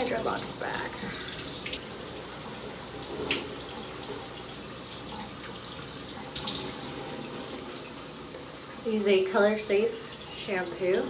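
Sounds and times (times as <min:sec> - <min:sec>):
shower running: 0:00.0 - 0:11.0.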